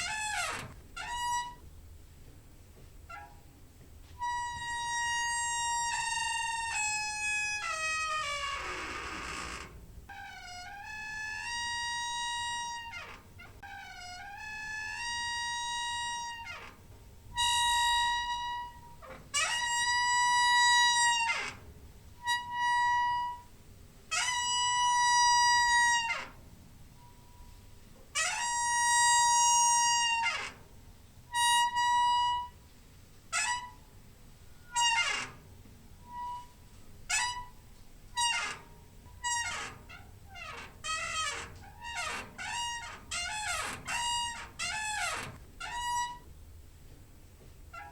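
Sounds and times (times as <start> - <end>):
squeaky door hinge creaking: 0.0 - 1.7, 3.0 - 3.5, 4.2 - 26.4, 27.0 - 30.7, 31.3 - 32.6, 33.3 - 46.4, 47.7 - 47.9.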